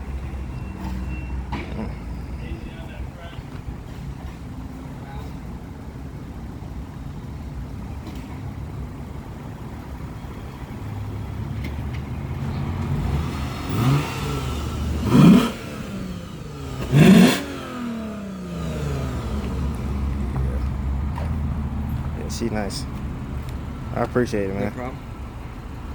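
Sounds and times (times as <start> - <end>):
car engine idling and revving: 0.0 - 25.9.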